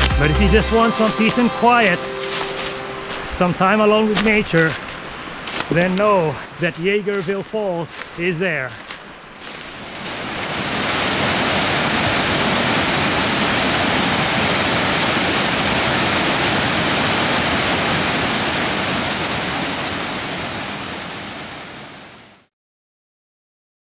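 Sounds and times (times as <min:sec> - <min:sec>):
waterfall rushing: 0:00.0 - 0:22.5.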